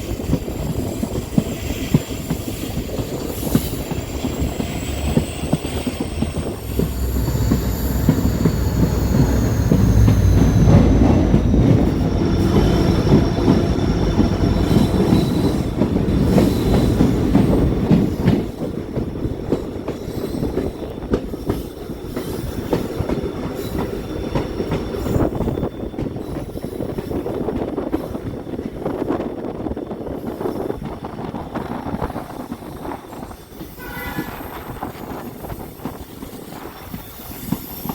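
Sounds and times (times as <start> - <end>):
train rumbling on rails: 0.0 - 37.9.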